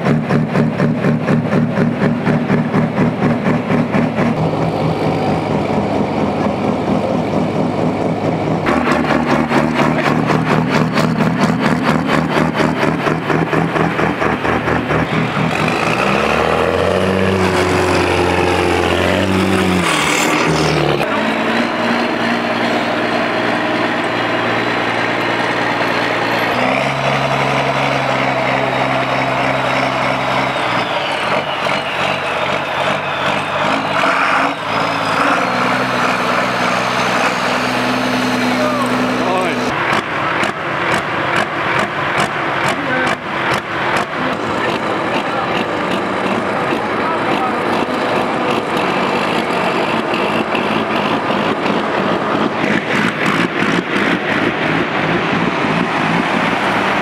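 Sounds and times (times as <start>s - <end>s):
tractor engine running loud: 0.0s - 57.0s.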